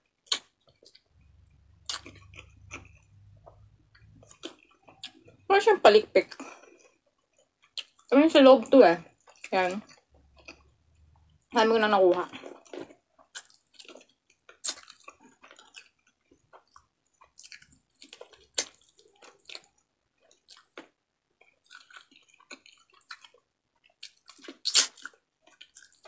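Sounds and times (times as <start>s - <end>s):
wet chewing and lip smacks: 0.2s - 5.5s, 6.3s - 8.1s, 9.0s - 11.4s, 12.4s - 26.0s.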